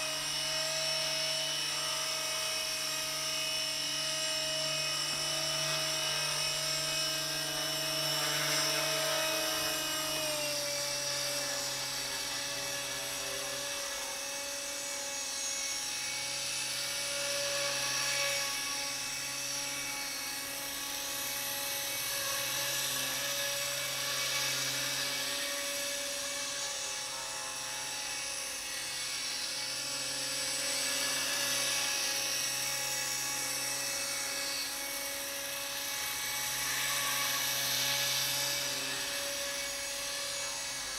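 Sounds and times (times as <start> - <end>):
rc helicopter motor whining: 0.0 - 40.9.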